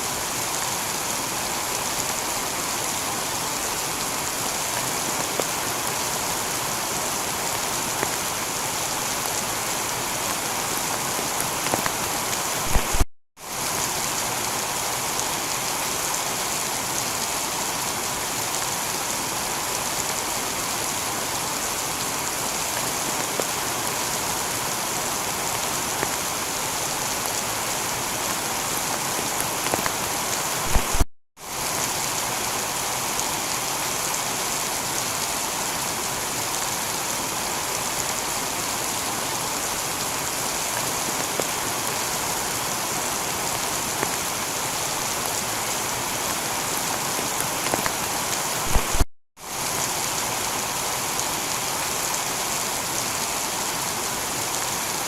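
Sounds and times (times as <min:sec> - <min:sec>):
heavy rain on a tiled roof: 0:00.0 - 0:55.0.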